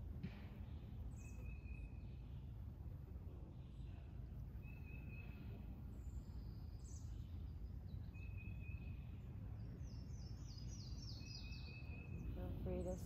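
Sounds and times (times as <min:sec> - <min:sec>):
wild birds singing: 0:00.3 - 0:13.0.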